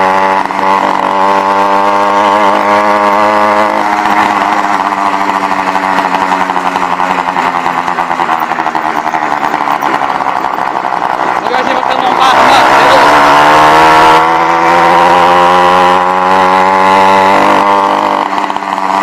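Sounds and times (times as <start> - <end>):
small two-stroke engine putter: 0.0 - 19.0.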